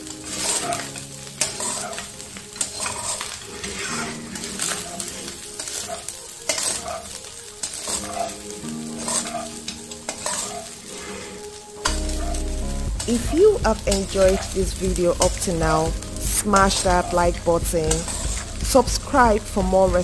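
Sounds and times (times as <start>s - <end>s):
metal spatula scraping wok: 0.0s - 19.5s
rice sizzling in a wok: 0.0s - 20.0s.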